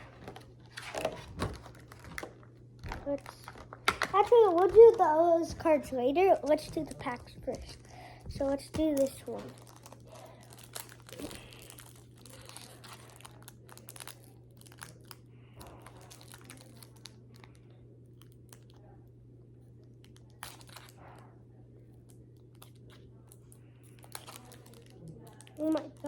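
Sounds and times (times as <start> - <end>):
foil wrapper crinkling and tearing: 0.0 - 5.8, 6.4 - 18.8, 20.0 - 21.2, 22.1 - 26.0
steady low hum: 0.0 - 26.0.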